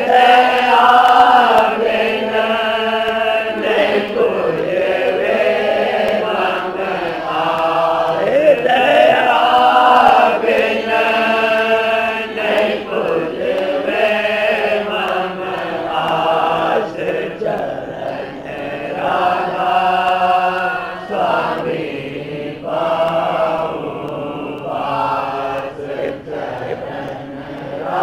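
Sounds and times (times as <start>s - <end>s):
devotional hymn chanted: 0.0s - 28.0s.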